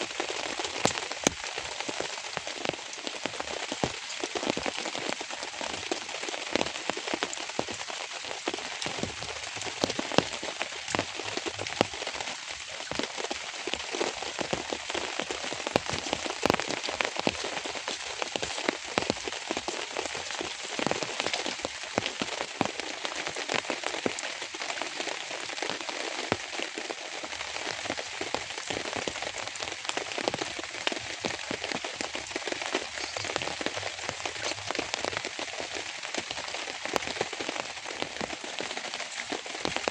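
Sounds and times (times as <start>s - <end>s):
raindrops hitting a surface: 0.0s - 39.9s
steady rain: 0.0s - 39.9s.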